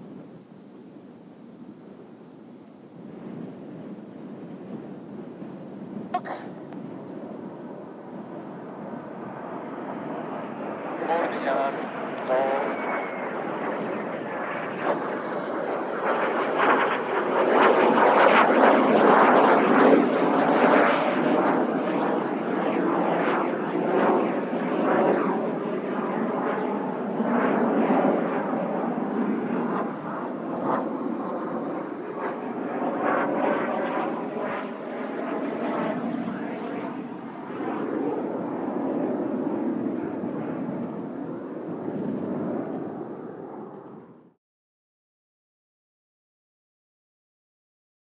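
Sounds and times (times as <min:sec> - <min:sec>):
jet aircraft flying past: 0:00.0 - 0:44.4.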